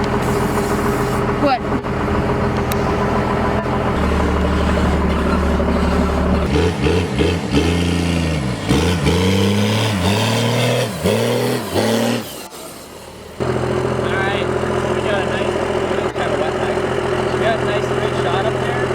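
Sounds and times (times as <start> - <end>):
diesel truck engine revving: 0.0 - 18.9.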